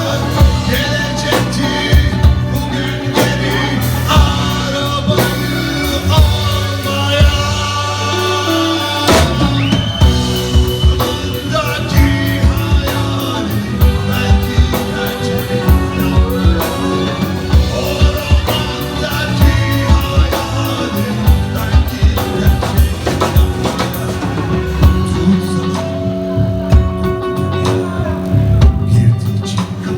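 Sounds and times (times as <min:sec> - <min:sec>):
drum kit: 0:00.0 - 0:29.9
rock song with singing: 0:00.0 - 0:29.9.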